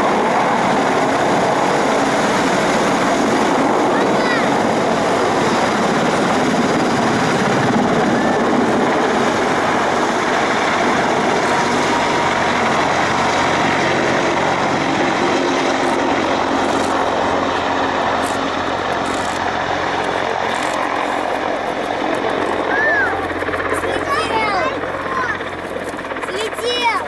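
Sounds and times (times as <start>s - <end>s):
helicopter engines and rotor: 0.0s - 27.0s.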